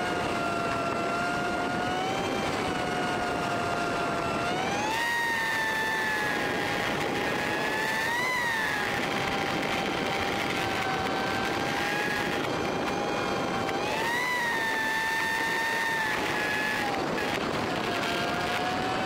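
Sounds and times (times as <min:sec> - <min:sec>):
motorcycle engine cruising: 0:00.0 - 0:19.0
wind and road rush: 0:00.0 - 0:19.0.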